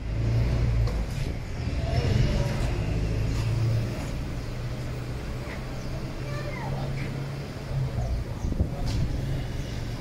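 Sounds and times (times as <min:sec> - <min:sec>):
vehicle engines humming: 0:00.0 - 0:10.0.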